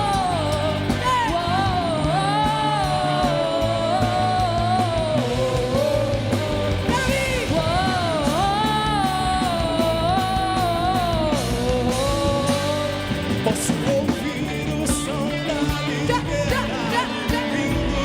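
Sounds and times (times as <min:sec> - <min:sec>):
bending lead melody: 0:00.0 - 0:18.0
rock band playing: 0:00.0 - 0:18.0.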